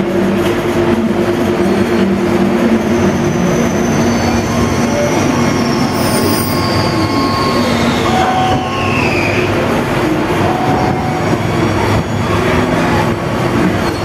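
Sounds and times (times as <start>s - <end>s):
machinery humming and rumbling: 0.0s - 14.0s.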